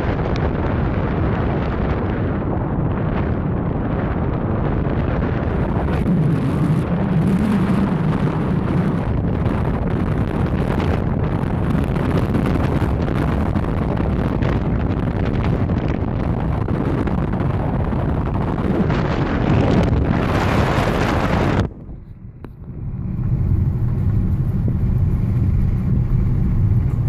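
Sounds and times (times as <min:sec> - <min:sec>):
road noise: 0:00.0 - 0:27.0
wind rushing over microphone: 0:00.0 - 0:27.0.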